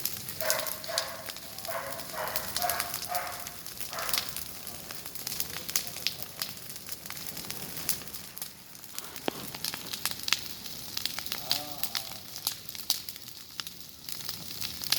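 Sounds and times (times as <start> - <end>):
fire crackling and hissing: 0.0 - 14.9.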